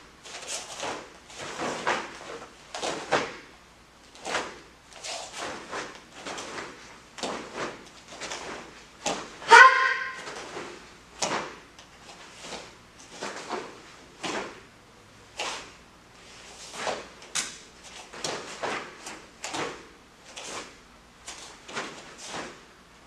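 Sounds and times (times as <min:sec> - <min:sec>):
bare feet on foam mats: 0:00.0 - 0:22.8
uniform swishes and snaps: 0:00.2 - 0:09.4, 0:10.1 - 0:14.7, 0:15.3 - 0:22.7.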